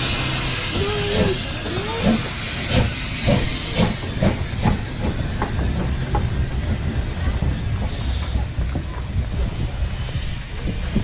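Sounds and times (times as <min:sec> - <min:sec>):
locomotive exhaust chuffs: 0:00.0 - 0:10.7
steam locomotive hissing: 0:00.0 - 0:11.0.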